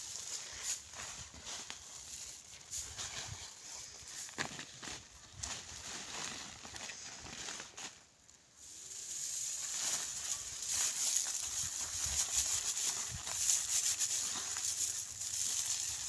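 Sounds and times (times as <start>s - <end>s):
dry straw rustling and crackling: 0.0s - 16.0s.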